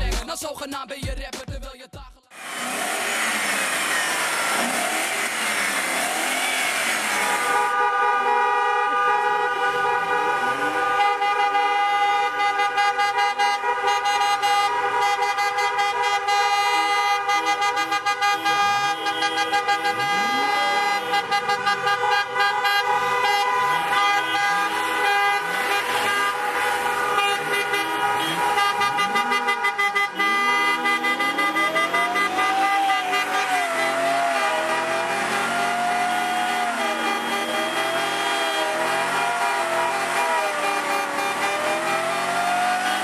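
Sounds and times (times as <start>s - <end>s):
car horns honking: 2.4s - 43.0s.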